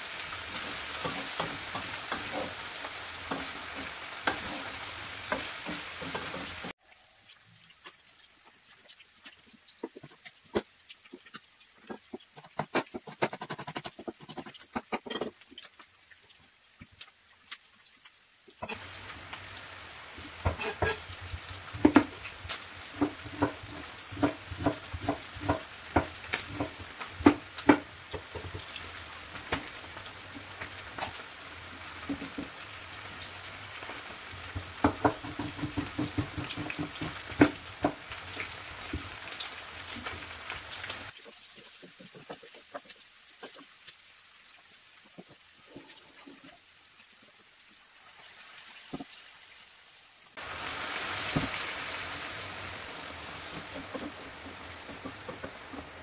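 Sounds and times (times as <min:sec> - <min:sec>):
pan sizzling: 0:00.0 - 0:56.0.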